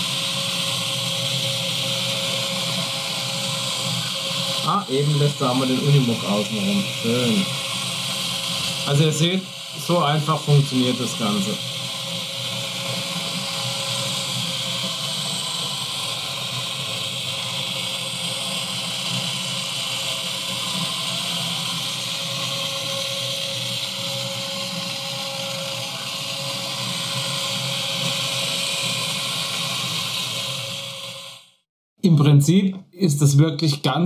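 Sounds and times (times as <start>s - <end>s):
small electric motors whirring: 0.0s - 31.6s.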